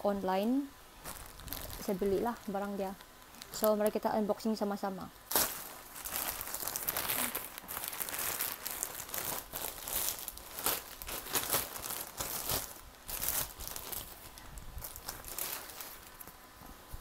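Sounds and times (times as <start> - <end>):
plastic bag crinkling: 1.0 - 4.0, 5.3 - 16.4.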